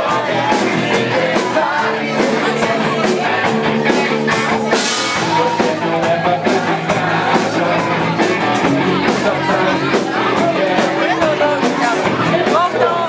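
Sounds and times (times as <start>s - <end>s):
drums beating: 0.0s - 13.0s
live rock band playing: 0.0s - 13.0s
person singing: 0.0s - 13.0s.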